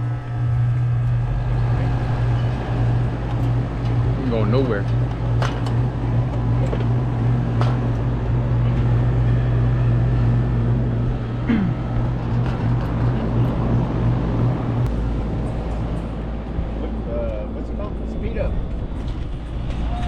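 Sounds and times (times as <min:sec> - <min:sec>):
hvac unit humming: 0:00.0 - 0:20.0.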